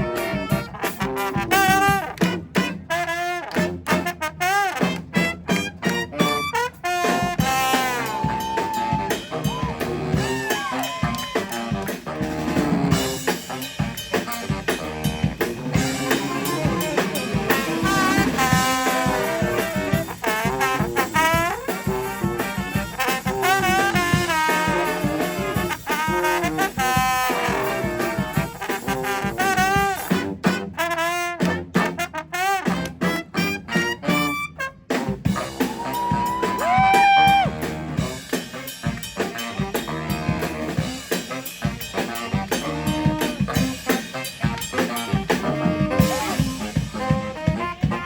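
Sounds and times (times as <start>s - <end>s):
brass band playing: 0.0s - 48.0s
drums: 0.0s - 48.0s
horns with sliding phrases: 0.0s - 48.0s.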